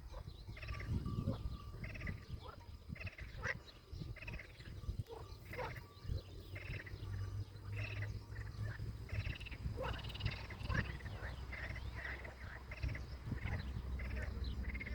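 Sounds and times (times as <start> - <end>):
frogs croaking: 0.0 - 14.9.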